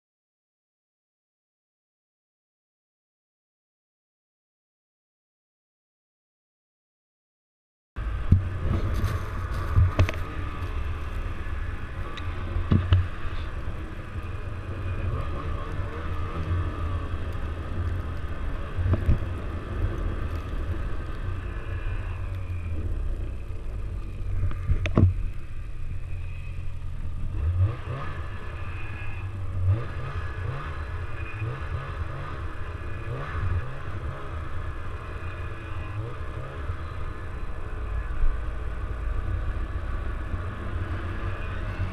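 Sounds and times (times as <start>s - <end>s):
snowmobile engine and track rumble: 8.0s - 41.9s.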